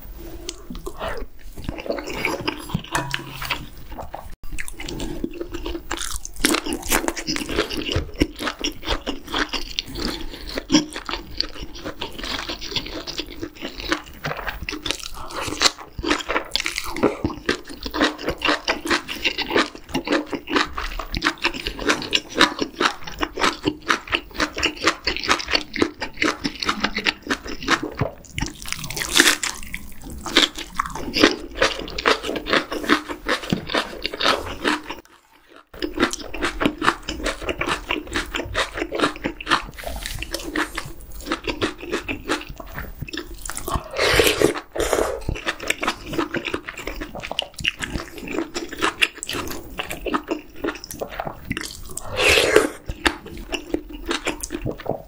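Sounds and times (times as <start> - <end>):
wet crunchy chewing: 0.2 - 55.0.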